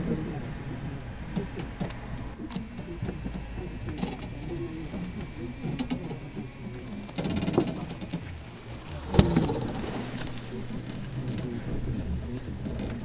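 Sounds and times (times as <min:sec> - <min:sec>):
rapid mechanical rattle: 0:01.0 - 0:13.0
small clicks and knocks: 0:01.4 - 0:13.0.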